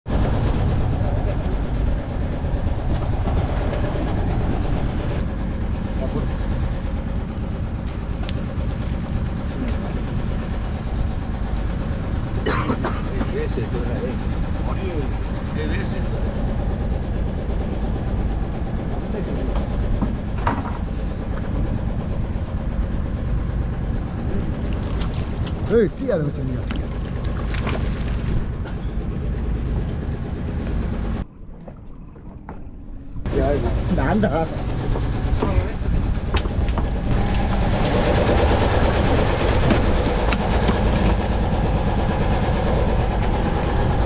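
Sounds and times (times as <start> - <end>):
boat engine rumbling: 0.0 - 44.0.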